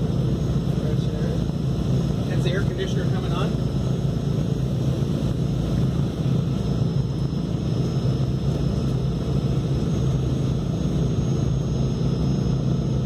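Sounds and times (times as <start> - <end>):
propeller engines droning: 0.0 - 13.0.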